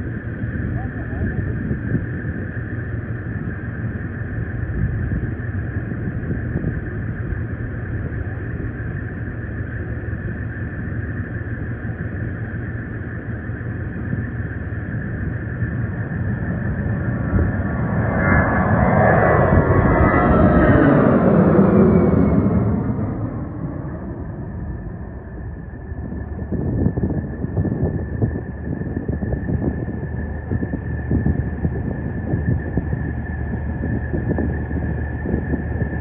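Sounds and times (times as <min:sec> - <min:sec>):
jet engines rumbling with whine: 0:00.0 - 0:36.0.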